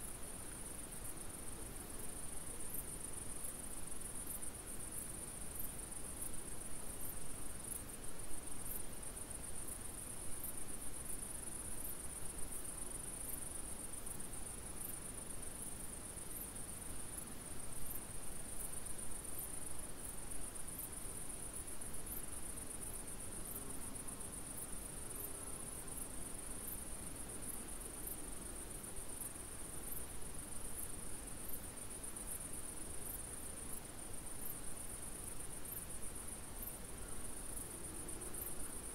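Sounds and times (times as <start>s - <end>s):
crickets chirping: 0.0s - 38.9s
faint outdoor hiss: 0.0s - 38.9s.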